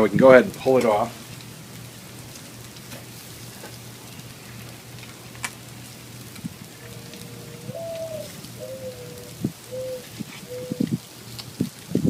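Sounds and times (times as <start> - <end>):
fish sizzling on grill: 0.0 - 12.0.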